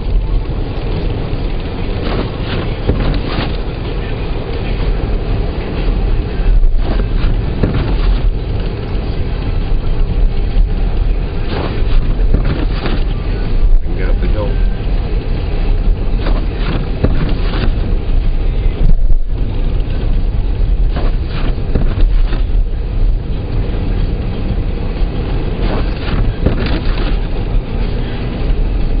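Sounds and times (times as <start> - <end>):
car driving rumble: 0.0 - 29.0
wind buffeting microphone: 0.0 - 29.0.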